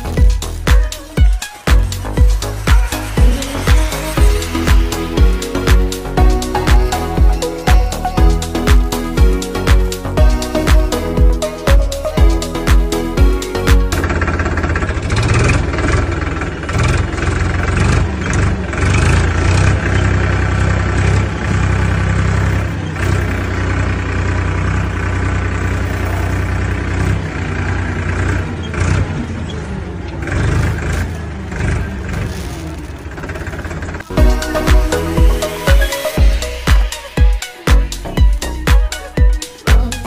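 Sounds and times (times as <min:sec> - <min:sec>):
engine rumbling and revving: 0:00.0 - 0:40.0.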